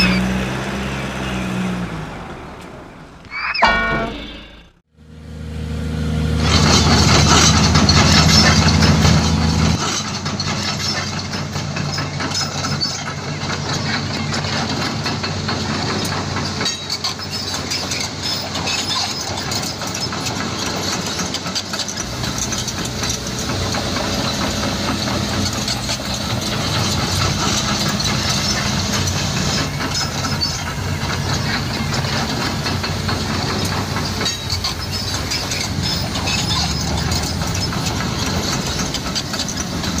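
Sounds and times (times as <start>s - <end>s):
truck engine running: 4.2s - 40.0s.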